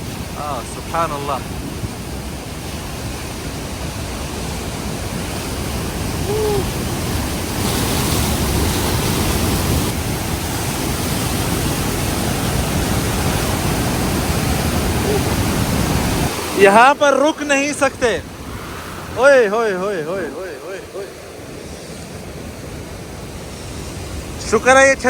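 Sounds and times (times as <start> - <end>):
roar of waterfall: 0.0 - 25.0.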